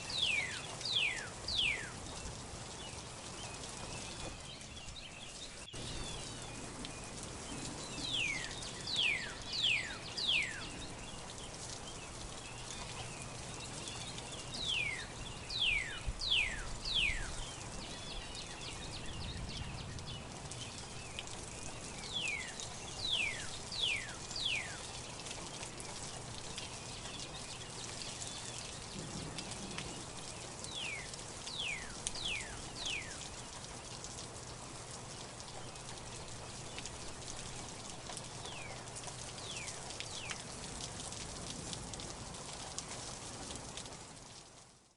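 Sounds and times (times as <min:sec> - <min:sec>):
rain falling in forest: 0:00.0 - 0:44.9.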